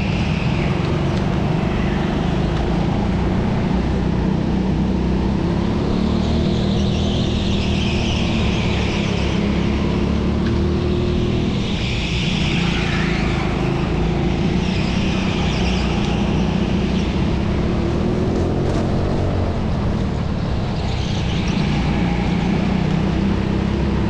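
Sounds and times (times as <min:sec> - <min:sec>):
kart engine revving: 0:00.0 - 0:24.0.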